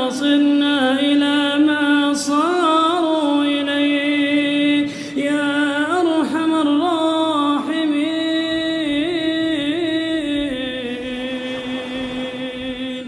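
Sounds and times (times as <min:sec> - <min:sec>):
person chanting wordless notes: 0:00.0 - 0:13.0.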